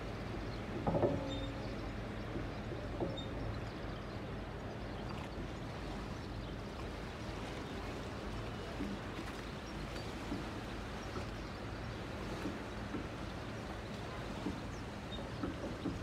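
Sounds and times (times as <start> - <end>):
ship engine humming: 0.0 - 16.0
water and wind noise: 0.0 - 16.0.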